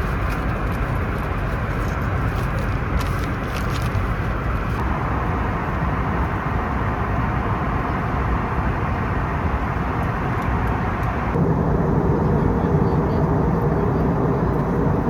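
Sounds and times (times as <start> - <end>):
moving vehicle rumbling: 0.0 - 15.0.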